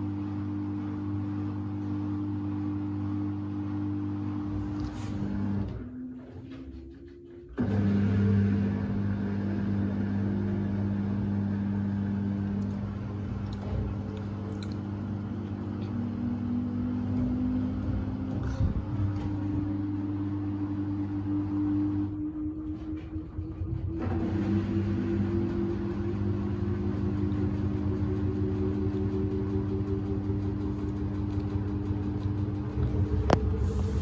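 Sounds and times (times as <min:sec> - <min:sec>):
washer drum motor humming: 0:00.0 - 0:34.0.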